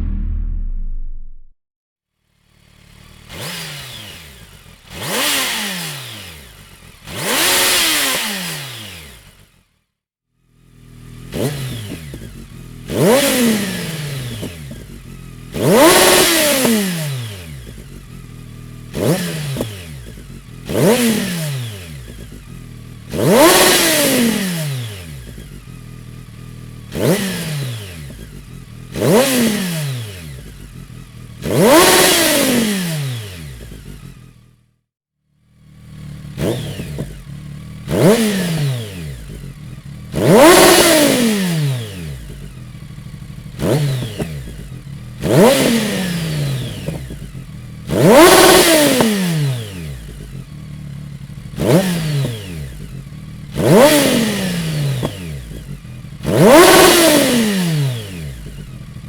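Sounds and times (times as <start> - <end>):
motorcycle engine revving: 0.0 - 1.5, 2.2 - 59.0.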